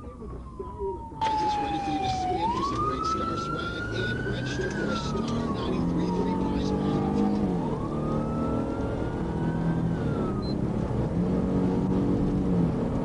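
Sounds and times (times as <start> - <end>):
police siren wailing: 0.0 - 13.0
car engine accelerating: 1.2 - 13.0.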